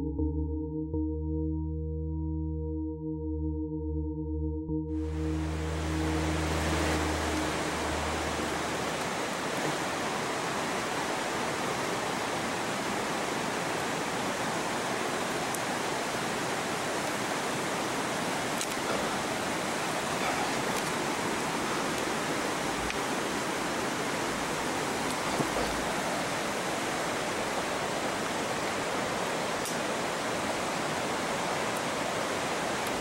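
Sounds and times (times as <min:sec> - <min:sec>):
steady rushing noise: 0:05.0 - 0:33.0.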